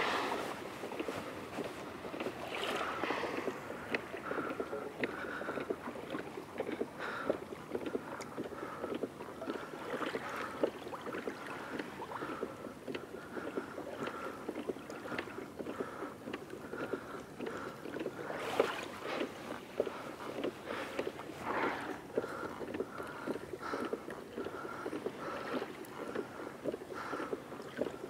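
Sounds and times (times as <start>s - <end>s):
ripples lapping against kayak hull: 0.0s - 28.0s.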